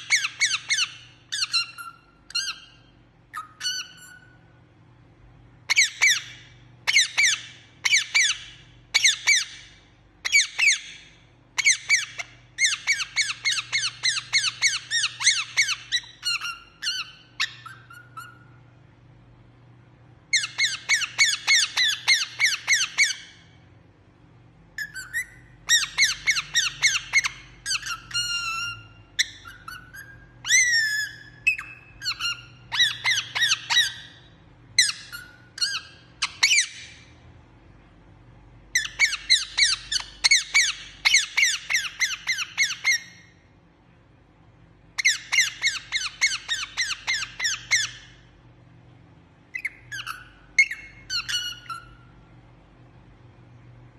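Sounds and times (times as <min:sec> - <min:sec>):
parakeet chirping: 0:00.0 - 0:04.6, 0:05.5 - 0:19.0, 0:20.2 - 0:23.8, 0:24.6 - 0:37.3, 0:38.5 - 0:43.6, 0:44.8 - 0:48.8, 0:49.4 - 0:52.3.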